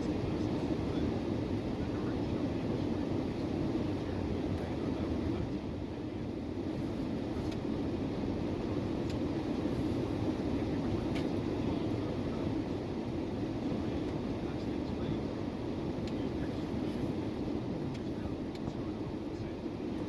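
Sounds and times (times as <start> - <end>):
car road and engine noise: 2.4 - 20.0.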